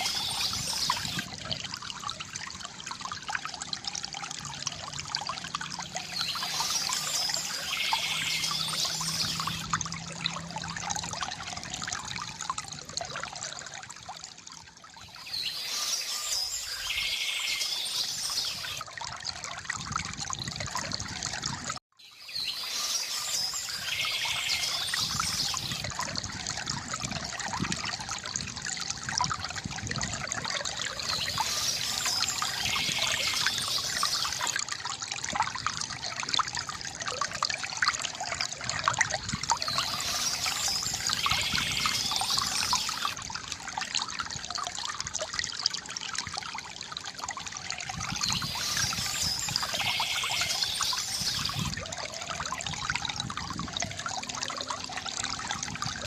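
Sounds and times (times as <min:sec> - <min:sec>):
river water gurgling: 0:00.0 - 0:56.0.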